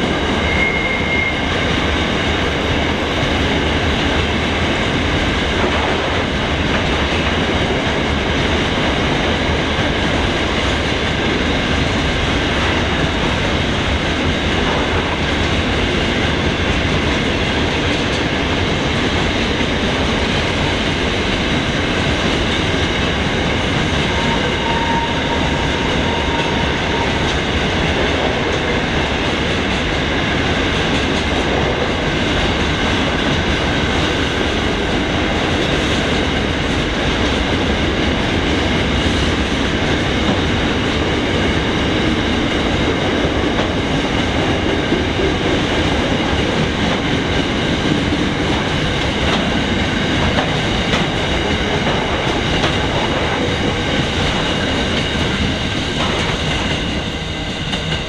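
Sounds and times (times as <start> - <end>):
train wagons rolling past: 0.0 - 58.0
wheels clattering on rails: 0.0 - 58.0.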